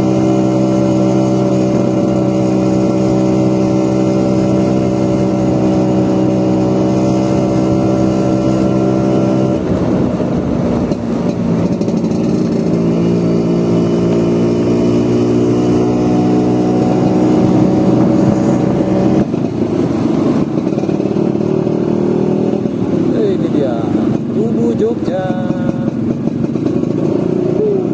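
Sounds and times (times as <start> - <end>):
scooter engine running: 0.0 - 27.9.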